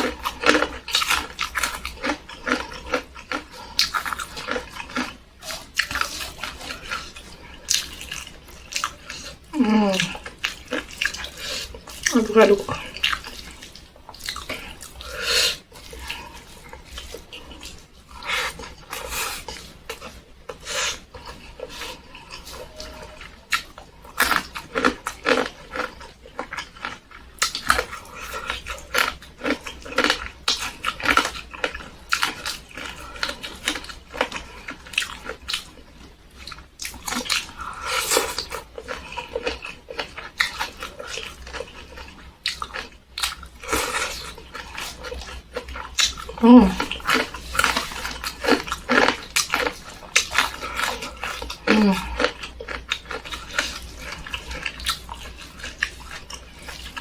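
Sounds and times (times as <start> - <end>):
wet chewing and smacking: 0.0 - 57.0.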